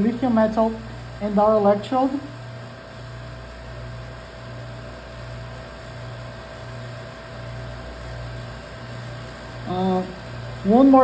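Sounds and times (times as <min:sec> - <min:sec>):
faint steady whine: 0:00.0 - 0:11.0
machine hum with low throb: 0:00.0 - 0:11.0.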